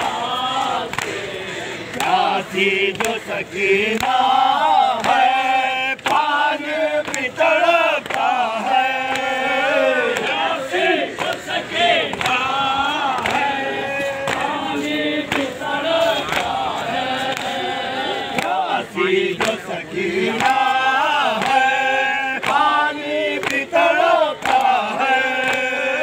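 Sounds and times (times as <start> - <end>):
crowd of men chanting: 0.0 - 26.0.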